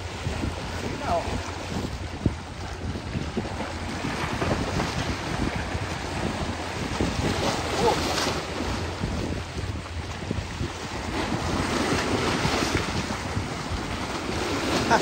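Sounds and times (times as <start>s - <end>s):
sea waves on rocky shore: 0.0s - 15.0s
wind buffeting microphone: 0.0s - 15.0s.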